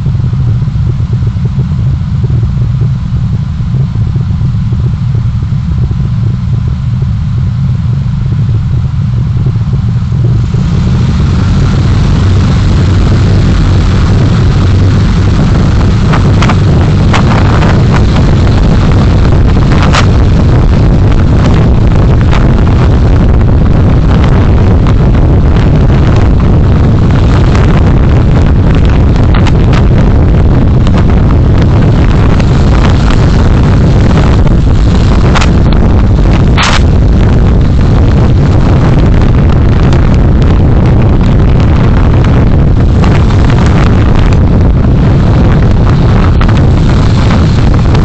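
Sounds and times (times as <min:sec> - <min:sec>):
vehicle rumble: 0:00.0 - 0:48.0
wind buffeting microphone: 0:00.0 - 0:48.0.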